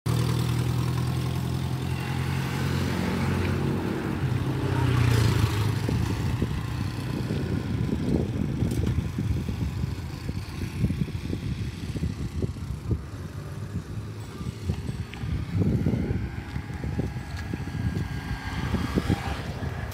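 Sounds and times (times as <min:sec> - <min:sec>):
vehicle engine humming: 0:00.1 - 0:19.9
wind buffeting microphone: 0:01.3 - 0:19.9.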